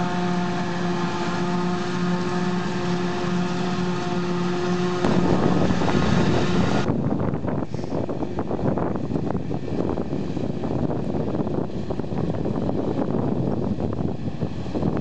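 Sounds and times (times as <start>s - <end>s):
harvester engine drone with whine: 0.0s - 15.0s
rough loud engine rumble: 0.0s - 15.0s
wind noise on microphone: 0.0s - 15.0s.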